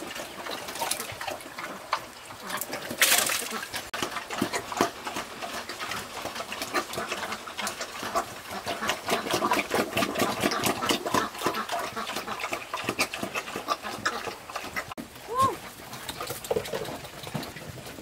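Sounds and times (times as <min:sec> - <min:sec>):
pig chomping food: 0:00.0 - 0:15.0, 0:15.6 - 0:18.0.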